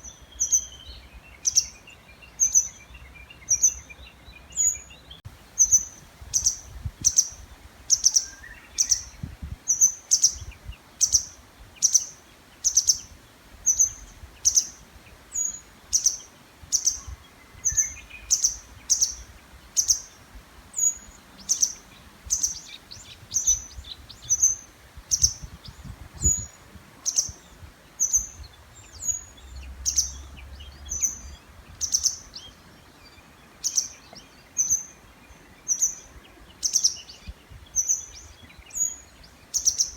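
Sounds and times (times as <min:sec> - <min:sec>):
songbird repeating high call: 0:00.0 - 0:32.6.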